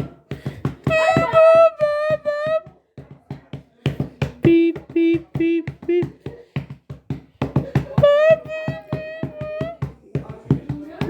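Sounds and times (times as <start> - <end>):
music with fast percussive beat: 0.0 - 11.0.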